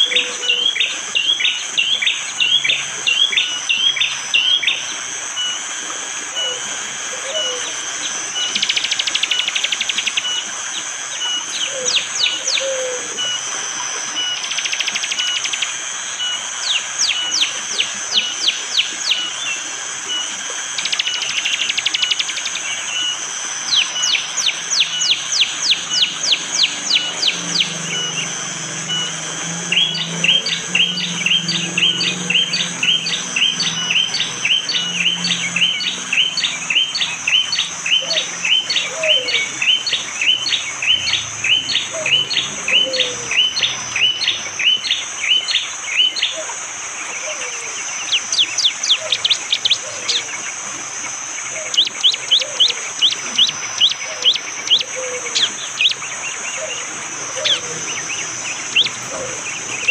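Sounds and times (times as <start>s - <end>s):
bird calling with chip notes: 0.0s - 59.9s
running water hiss: 0.0s - 59.9s.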